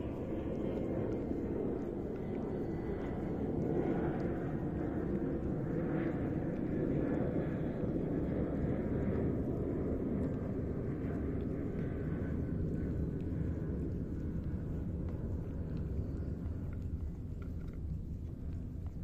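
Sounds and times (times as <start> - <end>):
cat chewing dry kibble: 0.0 - 9.4, 10.2 - 19.0
steady low rumble: 0.0 - 19.0.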